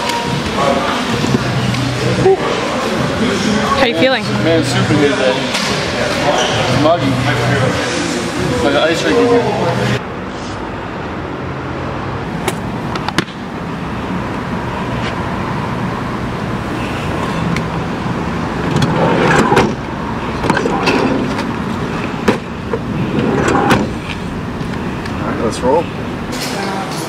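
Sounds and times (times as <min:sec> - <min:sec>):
traffic rushing: 0:00.0 - 0:27.0.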